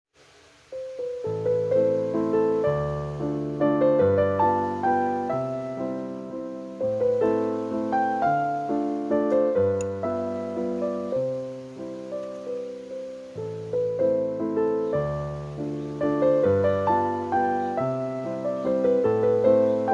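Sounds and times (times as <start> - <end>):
gentle solo piano: 0.6 - 19.9.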